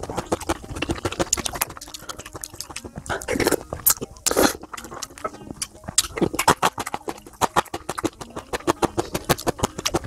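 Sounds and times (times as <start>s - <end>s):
mouth clicks and smacks: 0.0s - 10.0s
wet chewing: 0.0s - 10.0s.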